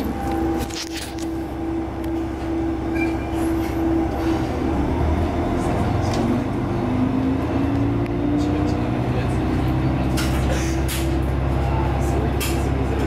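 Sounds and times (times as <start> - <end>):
diesel railcar engine drone: 0.0 - 13.0
rail noise: 0.0 - 13.0.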